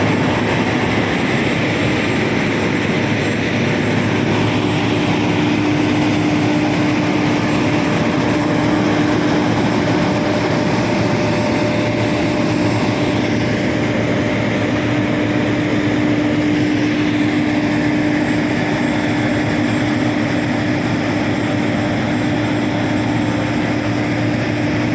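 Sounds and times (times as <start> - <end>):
combine harvester drone: 0.0 - 24.9.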